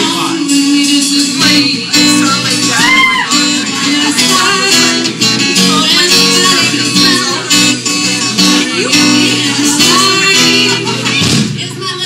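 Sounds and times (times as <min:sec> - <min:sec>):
live band playing country-folk: 0:00.0 - 0:12.0
strummed acoustic guitar: 0:00.0 - 0:12.0.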